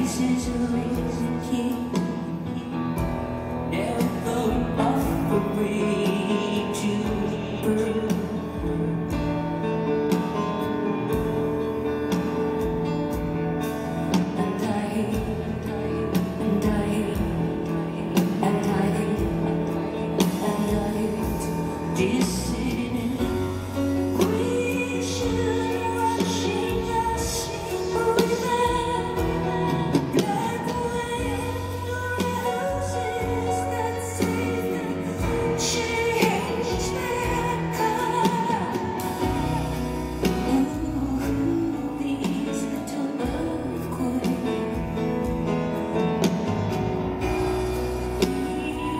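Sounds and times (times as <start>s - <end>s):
piano chords: 0.0s - 48.9s
woman singing: 0.0s - 48.9s.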